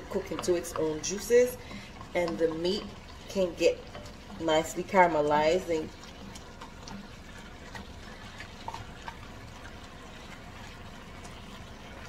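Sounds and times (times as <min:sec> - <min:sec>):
meat sizzling in a pot: 0:00.0 - 0:12.0
wooden spoon stirring: 0:00.0 - 0:12.0.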